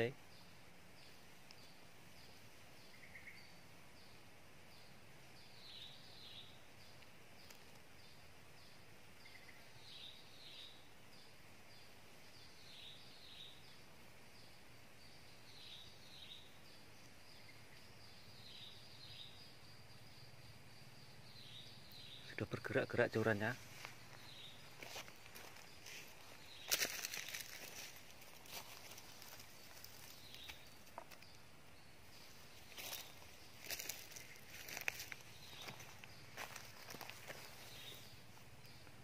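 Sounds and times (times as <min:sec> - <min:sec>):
high falling bird calls: 0:00.0 - 0:39.0.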